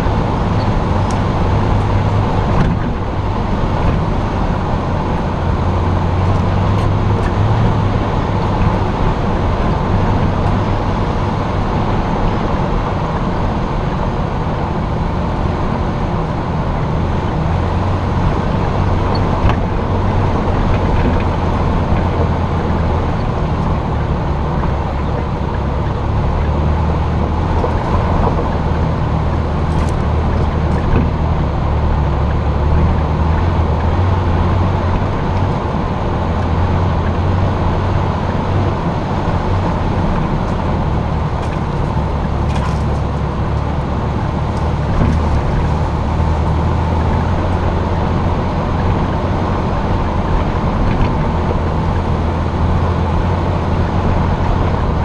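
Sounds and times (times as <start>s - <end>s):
engine drone: 0.0s - 55.0s
tyre and road noise: 0.0s - 55.0s.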